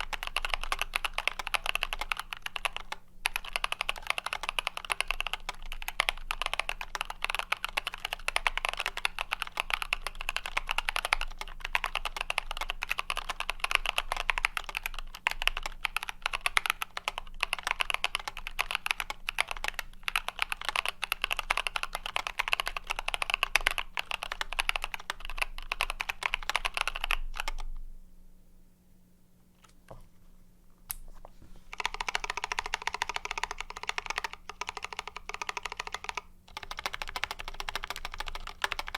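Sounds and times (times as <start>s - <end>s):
typing on a mechanical keyboard: 0.0s - 27.7s, 31.7s - 38.9s.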